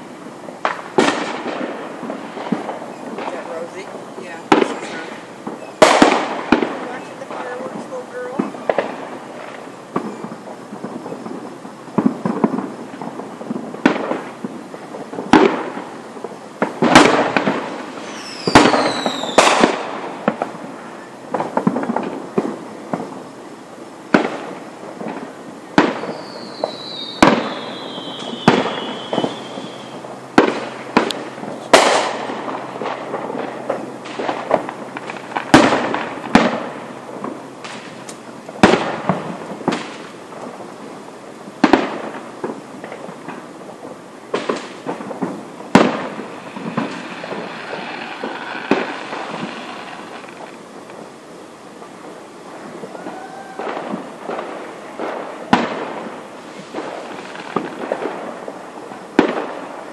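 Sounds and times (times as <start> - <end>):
fireworks bangs: 0.0 - 59.9
falling firework whistles: 0.6 - 59.9.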